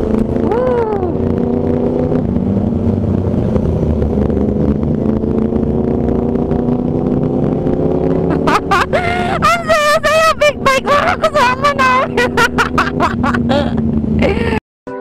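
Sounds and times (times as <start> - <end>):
low rumble: 0.0 - 14.6
motorcycle engine running: 0.0 - 15.0.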